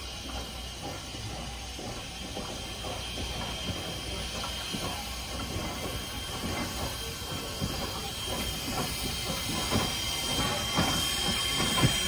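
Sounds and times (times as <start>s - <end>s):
steam hissing: 0.0s - 12.0s
locomotive rods clanking: 0.2s - 12.0s.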